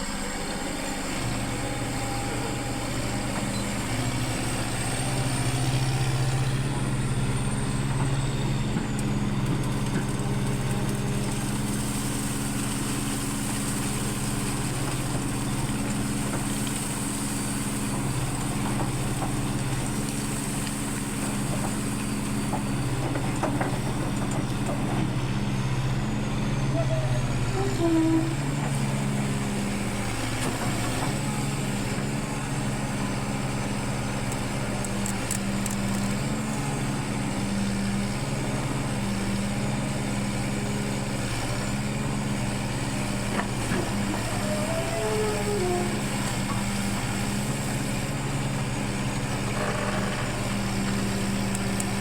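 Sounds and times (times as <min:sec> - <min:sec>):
diesel engine idling: 0:00.0 - 0:52.0.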